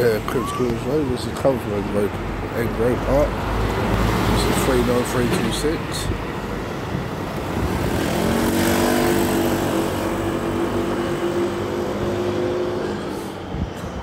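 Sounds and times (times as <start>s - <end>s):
tyre and traffic noise: 0.0s - 14.0s.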